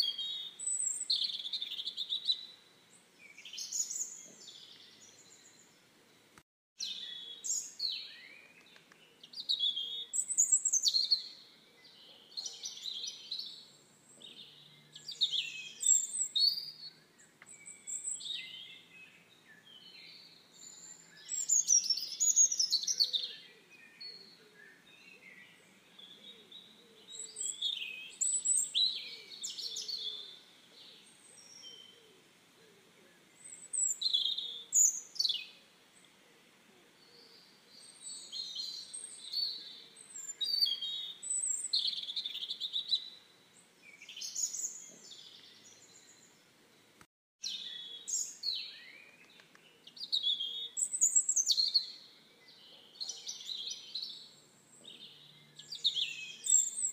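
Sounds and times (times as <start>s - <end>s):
birds chirping and singing: 0.0s - 56.9s.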